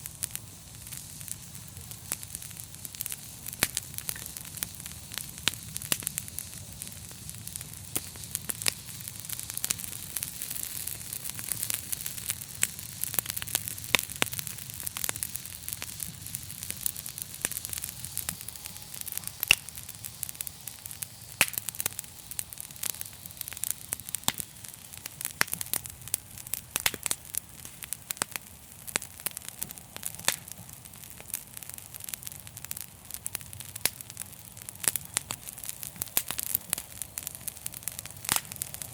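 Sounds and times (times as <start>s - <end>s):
flames hissing and rumbling: 0.0s - 38.9s
wood fire crackling and popping: 0.0s - 38.9s.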